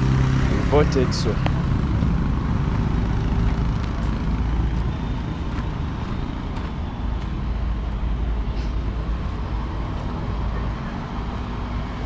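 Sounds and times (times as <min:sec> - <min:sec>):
vehicle and road noise rumble: 0:00.0 - 0:12.0.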